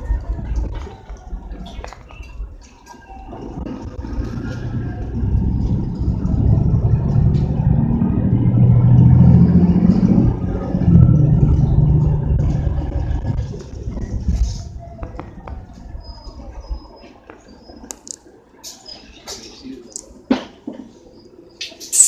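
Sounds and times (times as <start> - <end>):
bus diesel engine: 0.0 - 18.4.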